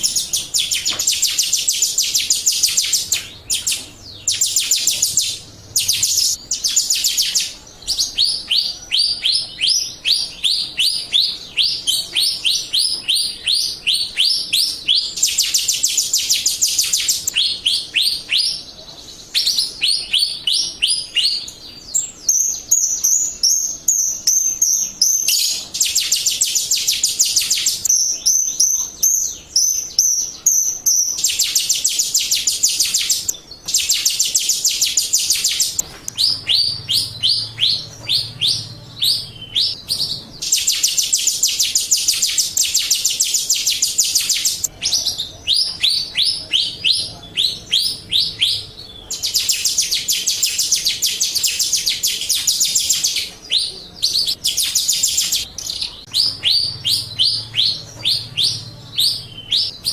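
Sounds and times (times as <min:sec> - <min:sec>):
starling chirps: 0:00.0 - 0:59.9.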